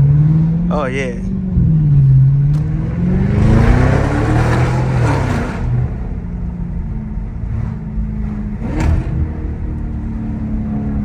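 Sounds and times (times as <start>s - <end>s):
car exhaust accelerating: 0.0s - 11.0s.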